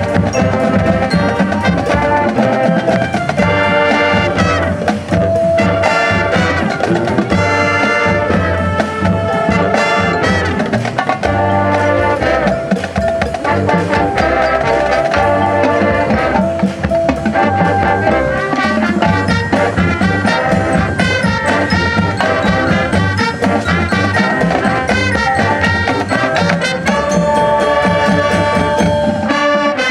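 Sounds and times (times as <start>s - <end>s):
brass chords: 0.0s - 29.9s
drumline percussion: 0.0s - 29.9s.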